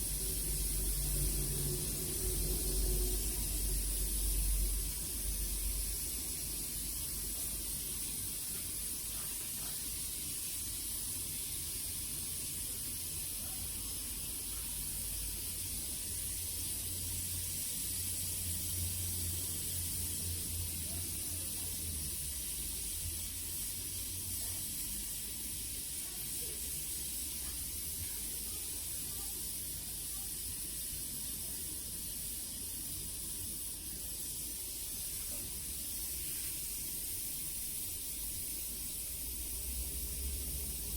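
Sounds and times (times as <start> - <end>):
gas torch flame hissing: 0.0 - 40.9.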